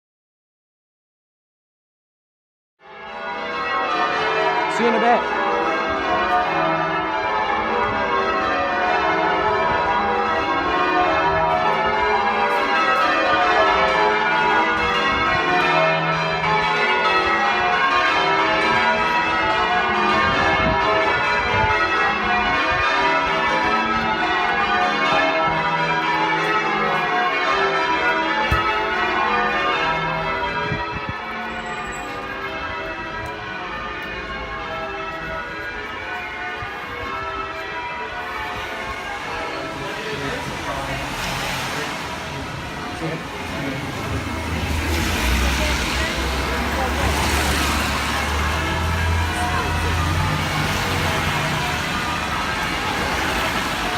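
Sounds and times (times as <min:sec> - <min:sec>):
church bells change ringing: 0:02.8 - 0:53.9.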